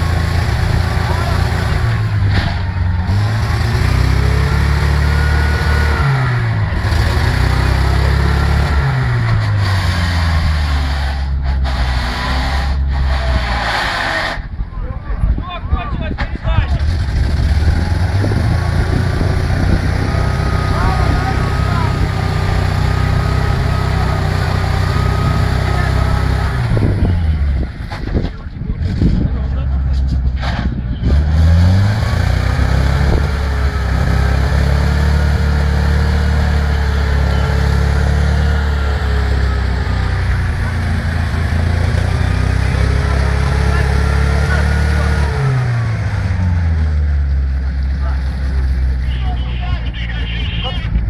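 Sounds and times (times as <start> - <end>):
off-road vehicle engine revving: 0.0 - 51.0.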